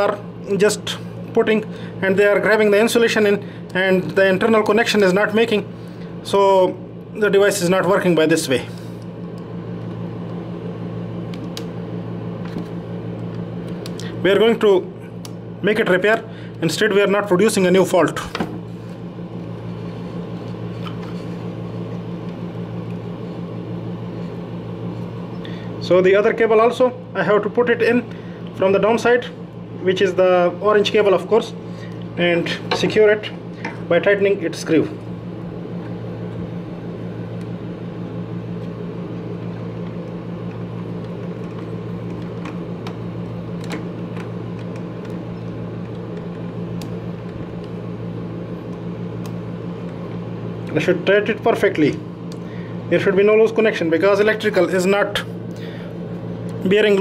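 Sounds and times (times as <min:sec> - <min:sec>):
steady low hum with tones: 0:00.0 - 0:57.0.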